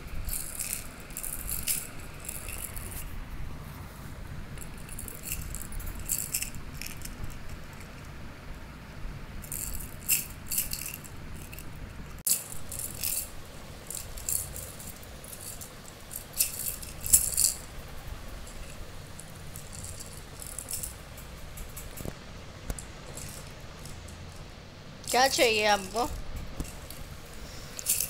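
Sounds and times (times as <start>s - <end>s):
toy rattle shaking: 0.0s - 3.1s, 4.5s - 8.0s, 9.4s - 22.2s, 23.0s - 28.0s.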